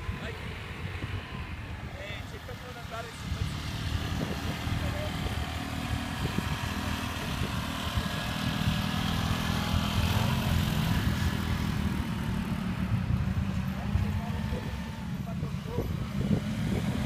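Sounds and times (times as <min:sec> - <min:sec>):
quad bike engines running: 0:00.0 - 0:17.0.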